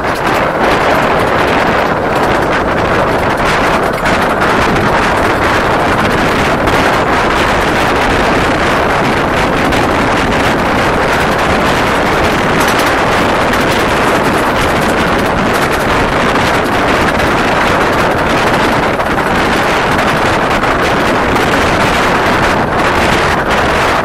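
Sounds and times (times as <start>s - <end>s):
miniature train running noise: 0.0s - 24.0s
wind rushing on microphone: 0.0s - 24.0s.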